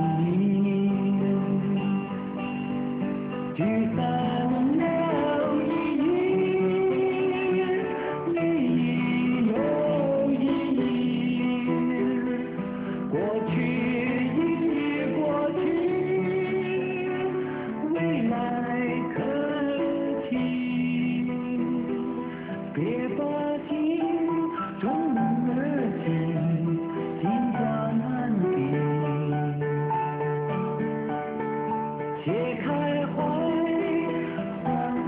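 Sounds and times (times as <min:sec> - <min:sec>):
acoustic guitar: 0:00.0 - 0:35.0
person singing long sliding notes: 0:03.3 - 0:30.3, 0:32.2 - 0:35.0.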